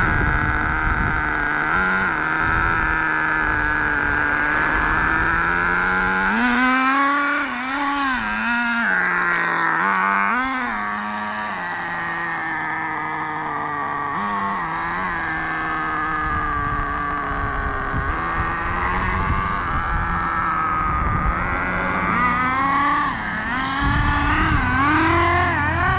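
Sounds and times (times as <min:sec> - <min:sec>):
small two-stroke engine revving: 0:00.0 - 0:25.9.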